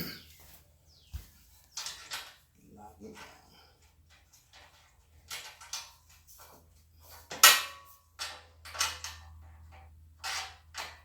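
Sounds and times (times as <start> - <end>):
metal clanks and rattles: 1.7 - 11.0.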